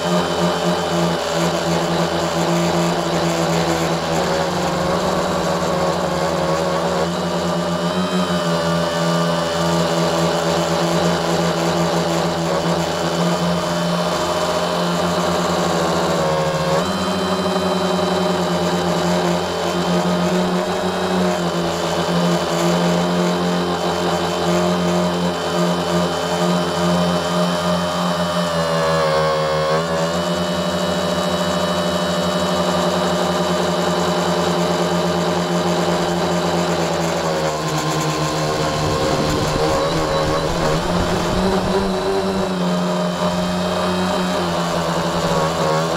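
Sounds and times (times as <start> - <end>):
drone motors and propellers whirring: 0.0 - 45.9.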